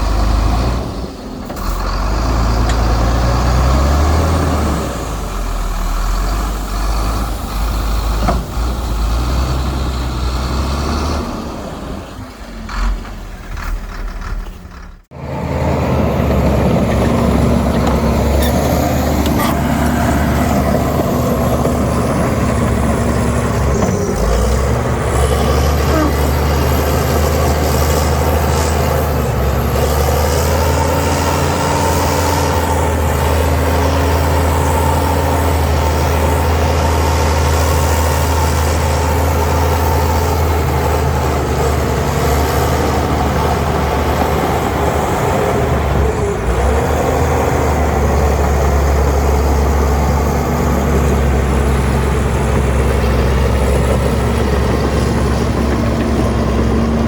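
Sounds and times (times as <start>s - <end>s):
heavy diesel engines rumbling: 0.0s - 57.0s.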